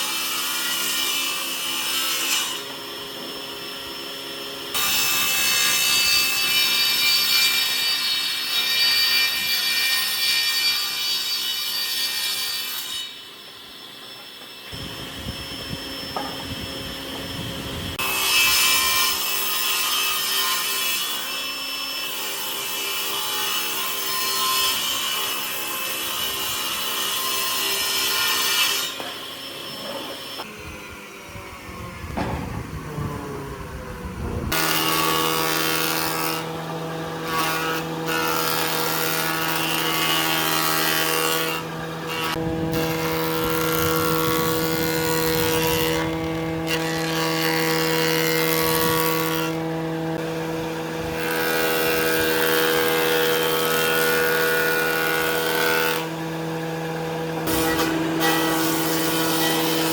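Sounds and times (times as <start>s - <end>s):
power tool cutting wood: 0.0s - 59.9s.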